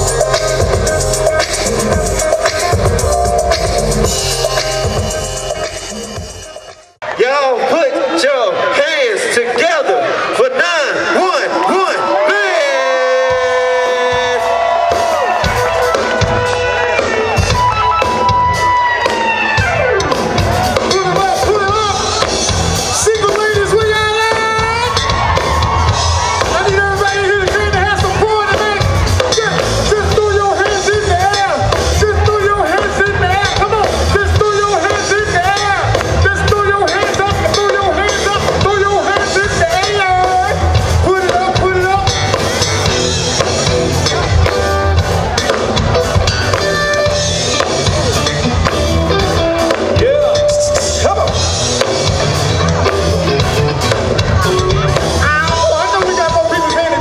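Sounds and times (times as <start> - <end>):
drum kit beat: 0.0 - 7.0, 13.0 - 57.0
crowd cheering: 0.0 - 57.0
live band music: 0.0 - 57.0.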